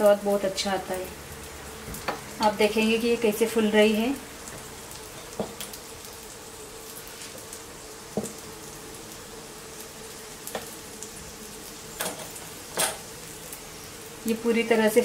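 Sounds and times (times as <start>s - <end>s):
flatbread sizzling in a pan: 0.0s - 15.0s.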